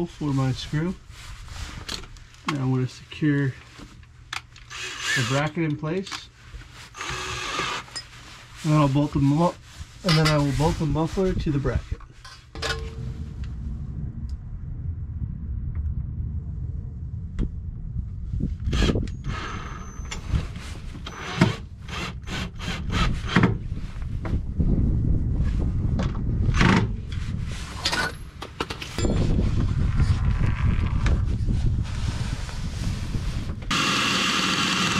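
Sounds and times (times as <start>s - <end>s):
steady low rumble: 0.0s - 4.5s, 8.8s - 33.7s.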